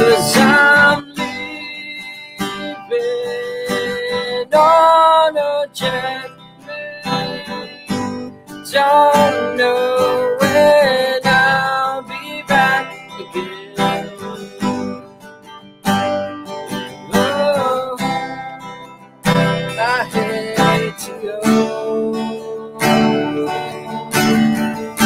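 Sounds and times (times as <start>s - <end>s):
man singing: 0.0s - 15.0s, 16.9s - 18.7s, 19.4s - 25.0s
acoustic guitar strumming: 0.0s - 25.0s.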